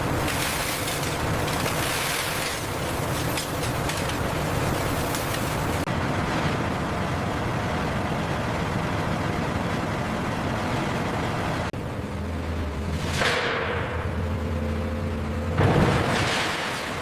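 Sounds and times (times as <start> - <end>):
industrial machinery rumbling: 0.0 - 17.0
low machine hum: 0.0 - 17.0.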